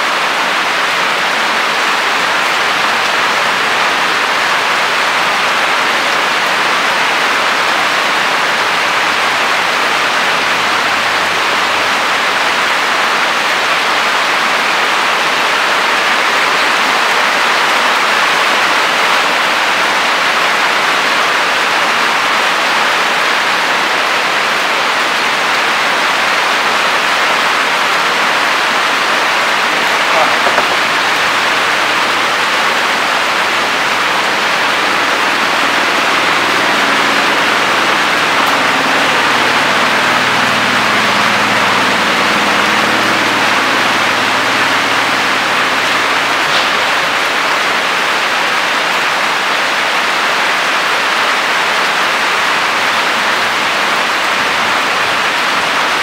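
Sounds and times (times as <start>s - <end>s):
heavy steady rain: 0.0s - 56.0s.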